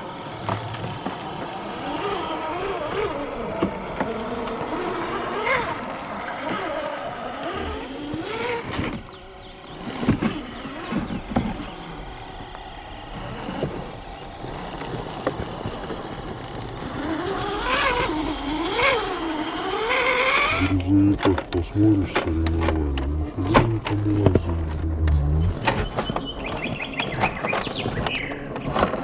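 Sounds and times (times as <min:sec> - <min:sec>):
rc truck motors whining: 0:00.0 - 0:29.0.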